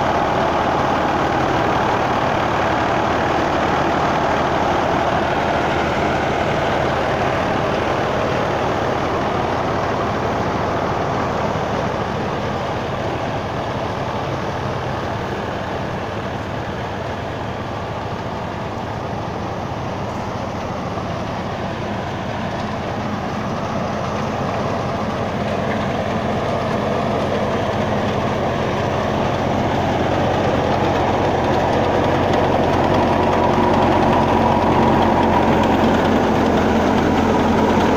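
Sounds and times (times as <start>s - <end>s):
diesel tractor engine running: 0.0s - 37.9s
threshing machine running: 0.0s - 37.9s.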